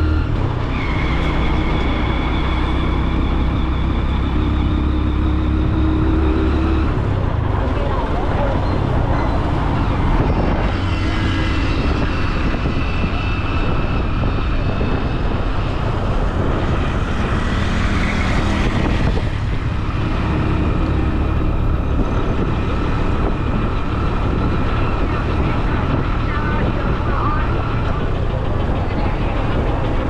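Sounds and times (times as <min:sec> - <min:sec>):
road noise: 0:00.0 - 0:30.0
vehicle engine rumble: 0:00.0 - 0:30.0.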